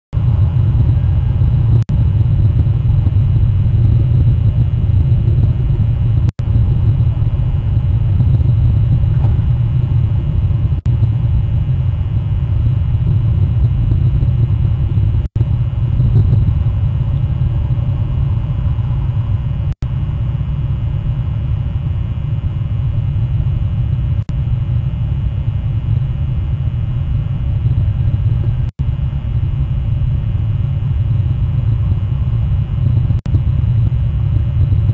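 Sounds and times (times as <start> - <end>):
steady low rumble: 0.1 - 34.9.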